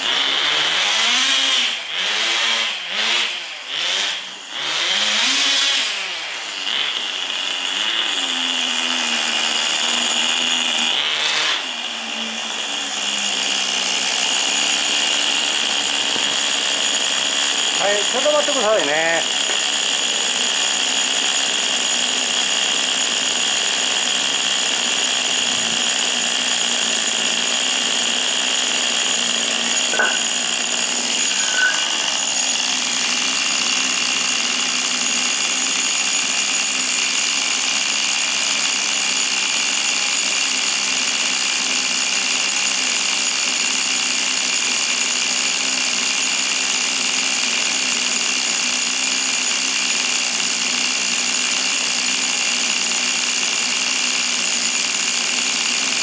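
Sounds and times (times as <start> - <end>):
small engine whining: 0.0 - 56.0.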